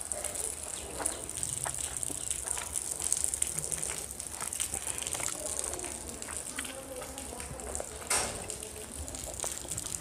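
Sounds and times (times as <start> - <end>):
chewing and wet mouth sounds: 0.0 - 10.0.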